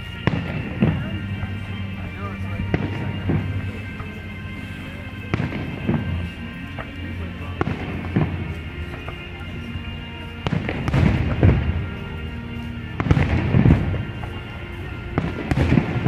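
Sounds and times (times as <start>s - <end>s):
fireworks bangs: 0.0s - 16.0s
music playing: 0.0s - 16.0s.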